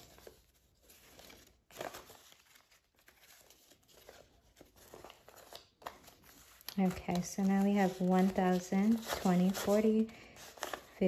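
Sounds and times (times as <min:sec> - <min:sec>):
paper banknotes rustling: 0:00.0 - 0:11.0.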